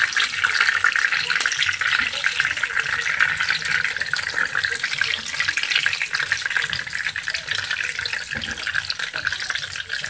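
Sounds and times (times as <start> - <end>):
food frying in hot oil: 0.0 - 10.0.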